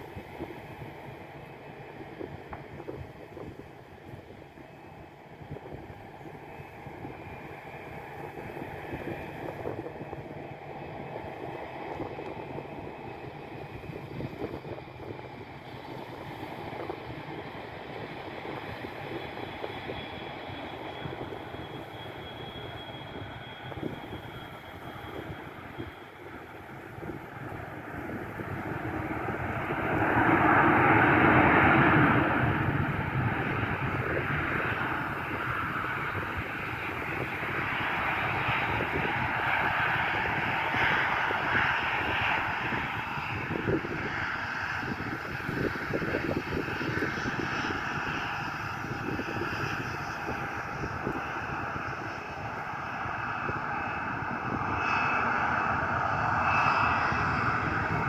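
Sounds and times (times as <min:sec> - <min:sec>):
distant jet engines rumbling: 0:00.0 - 0:58.0
wind buffeting microphone: 0:00.0 - 0:58.0.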